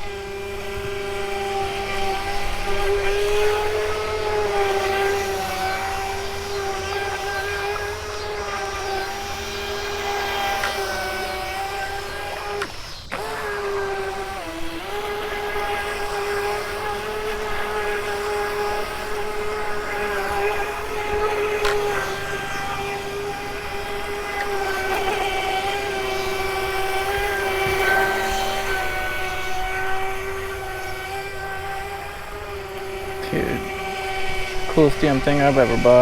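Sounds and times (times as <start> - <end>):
electric motor whining: 0.0 - 36.0.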